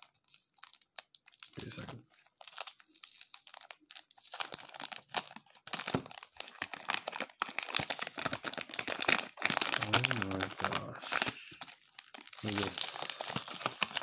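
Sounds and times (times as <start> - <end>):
plastic wrapper crinkling: 0.0 - 14.0.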